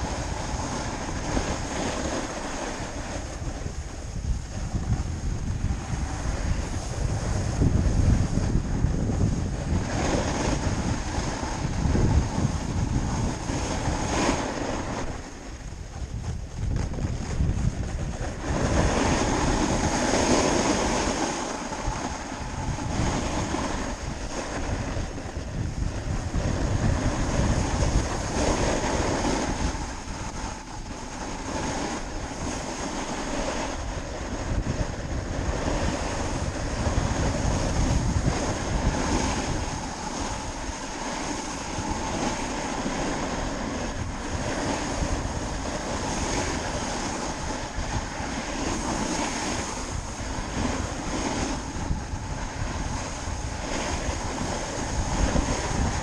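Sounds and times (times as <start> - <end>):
snowboard sliding on snow: 0.0 - 56.0
wind rushing over microphone: 0.0 - 56.0.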